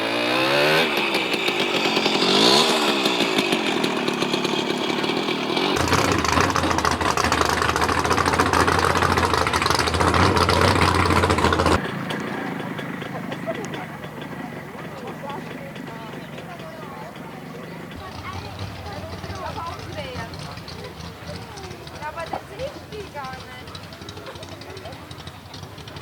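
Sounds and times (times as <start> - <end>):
deep engine note: 0.0 - 26.0
truck engine revving: 0.0 - 26.0.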